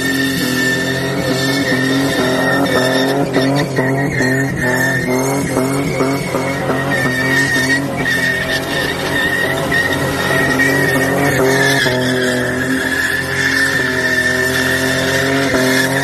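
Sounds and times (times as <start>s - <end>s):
car engine revving: 0.0s - 16.0s
tyre squeal: 0.0s - 16.0s.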